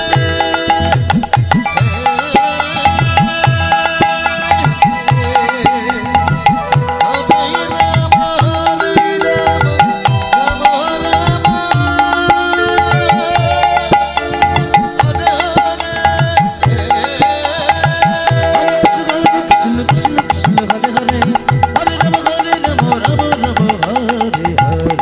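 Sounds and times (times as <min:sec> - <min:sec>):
sustained melody line: 0:00.0 - 0:25.0.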